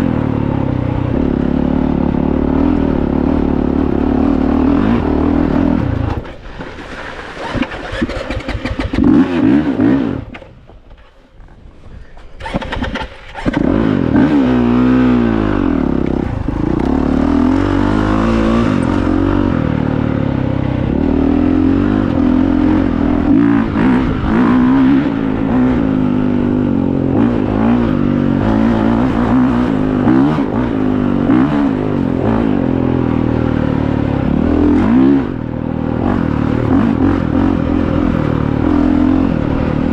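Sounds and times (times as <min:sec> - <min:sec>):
dirt bike engine revving: 0:00.0 - 0:10.4, 0:12.4 - 0:39.9.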